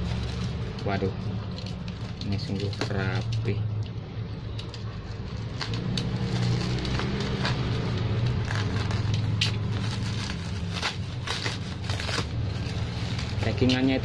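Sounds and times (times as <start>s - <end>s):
bubble wrap crackling and rustling: 0.0s - 3.6s, 4.6s - 14.0s.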